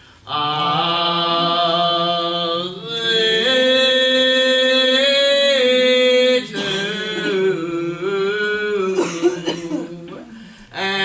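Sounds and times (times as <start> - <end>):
person singing gospel: 0.2 - 11.0.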